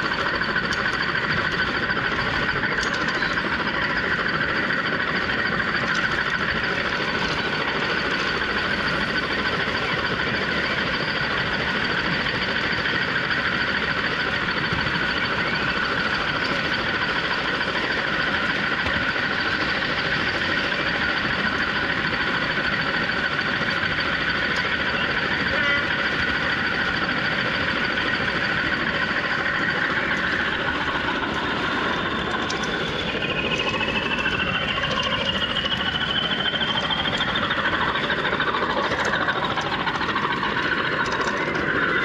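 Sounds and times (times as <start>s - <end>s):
model train wheels on rail: 0.0s - 42.0s
motor whine: 0.0s - 42.0s.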